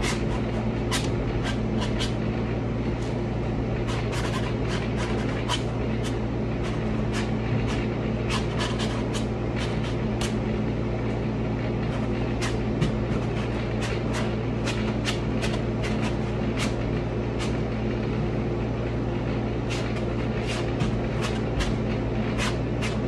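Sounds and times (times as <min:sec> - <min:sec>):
window air conditioner humming: 0:00.0 - 0:23.0.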